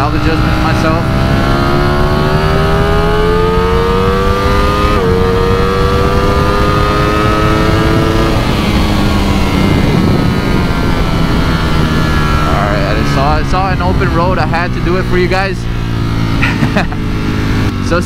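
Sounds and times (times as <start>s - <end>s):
wind rush: 0.0s - 17.8s
motorcycle engine revving: 0.0s - 18.0s.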